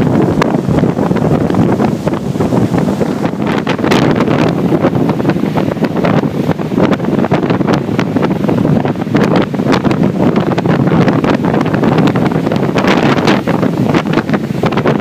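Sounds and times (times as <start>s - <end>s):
gale buffeting microphone: 0.0s - 15.0s
storm waves breaking: 0.0s - 15.0s.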